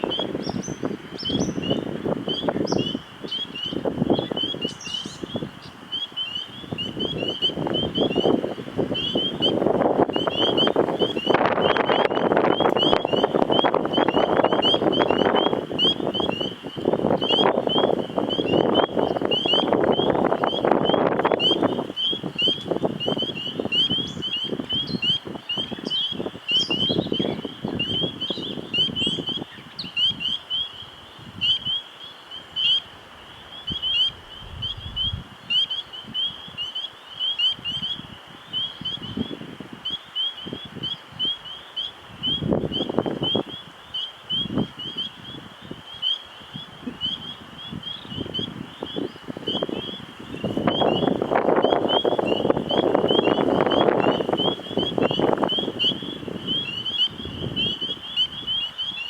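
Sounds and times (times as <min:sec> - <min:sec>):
wind buffeting microphone: 0:00.0 - 0:31.8, 0:32.4 - 0:59.0.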